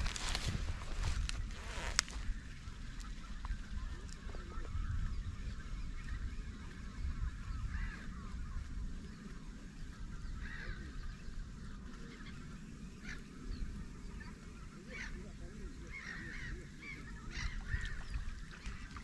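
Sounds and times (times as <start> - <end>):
bird calls: 0.0 - 19.0
low uneven rumble: 0.0 - 19.0.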